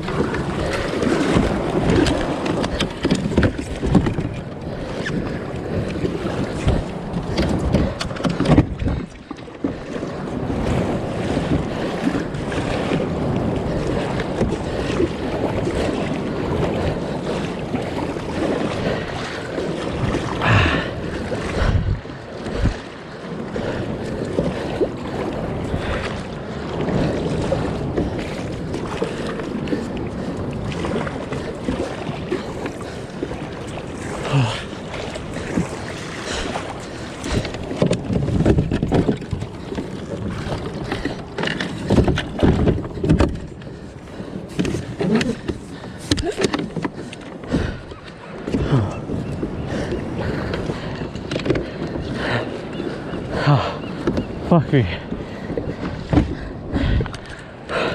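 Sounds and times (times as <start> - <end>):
water splashing around kayak: 0.0 - 57.9
wind buffeting microphone: 0.0 - 57.9.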